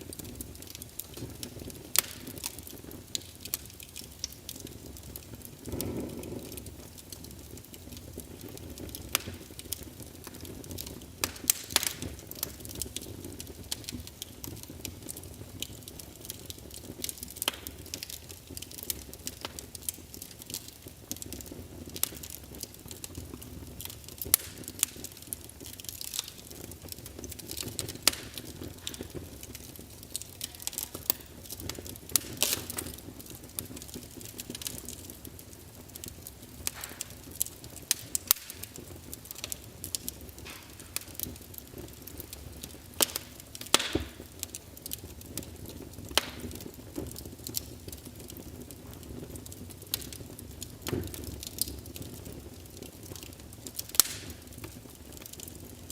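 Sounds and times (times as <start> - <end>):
fire popping and snapping: 0.0 - 55.9
wood fire crackling: 0.0 - 55.9.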